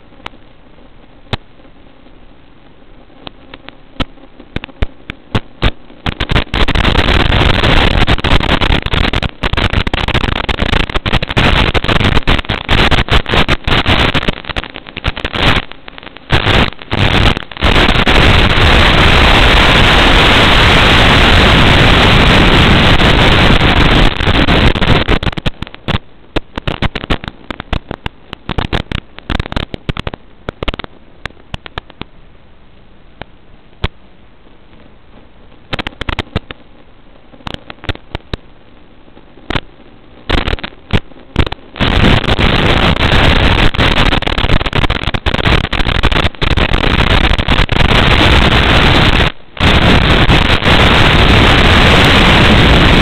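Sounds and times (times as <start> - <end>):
video receiver static crackles: 0.0 - 53.0.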